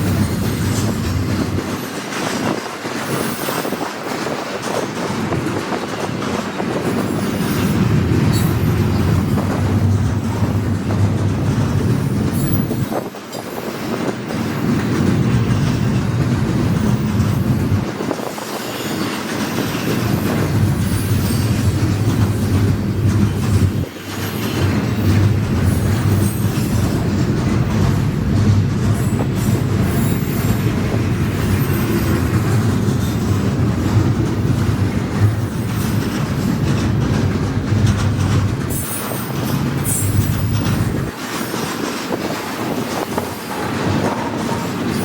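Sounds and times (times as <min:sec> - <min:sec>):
freight train cars rolling past: 0:00.0 - 0:45.0.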